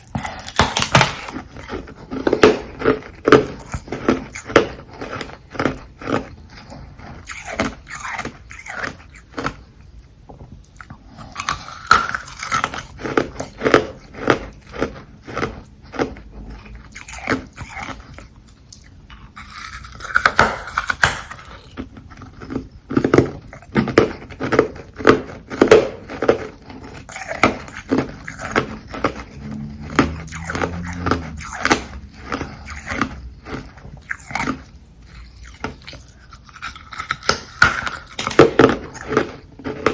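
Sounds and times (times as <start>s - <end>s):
ice crunching between teeth: 0.0s - 9.6s, 11.1s - 39.9s.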